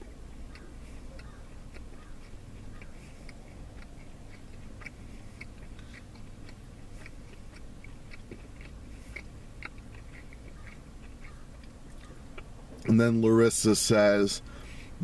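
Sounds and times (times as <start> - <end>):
chewing with wet mouth clicks: 0.0 - 15.0
low steady hum: 0.0 - 15.0.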